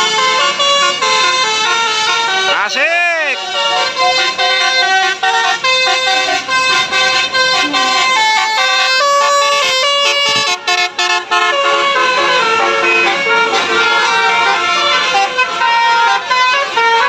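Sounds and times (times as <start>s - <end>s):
musical air horns playing tune: 0.0s - 17.0s.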